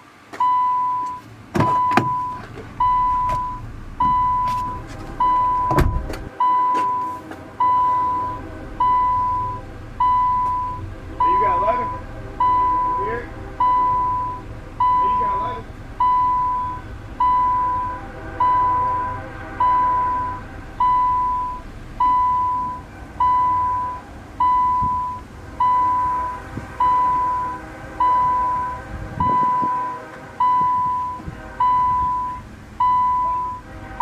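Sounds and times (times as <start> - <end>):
low street background noise: 0.0 - 34.0
electronic beeper tone: 0.4 - 33.6.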